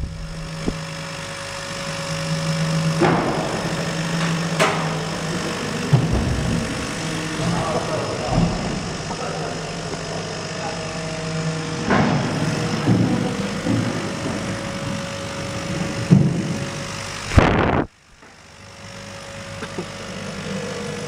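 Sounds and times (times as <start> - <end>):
machine hum with faint tone: 0.0 - 21.0.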